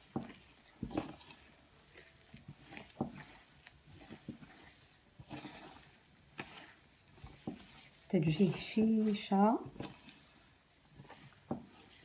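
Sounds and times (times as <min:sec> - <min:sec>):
hands kneading crumbly dough: 0:00.0 - 0:12.0.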